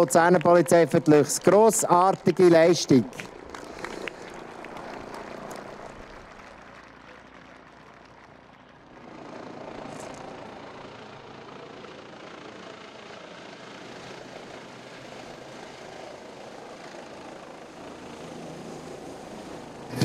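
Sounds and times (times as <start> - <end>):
helicopter hovering: 0.0 - 20.0.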